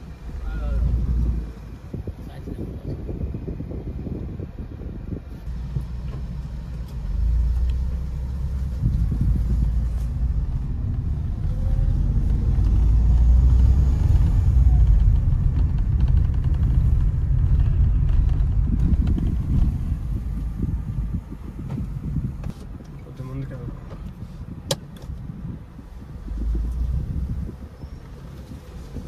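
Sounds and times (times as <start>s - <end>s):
car engine rumble: 0.0s - 29.0s.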